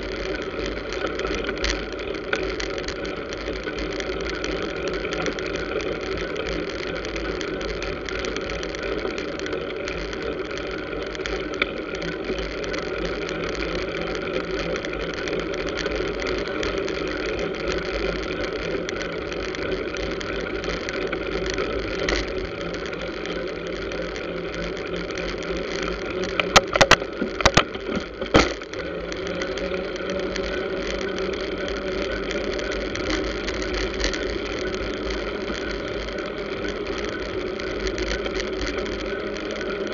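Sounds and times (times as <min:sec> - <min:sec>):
scooter and car traffic hum: 0:00.0 - 0:39.9.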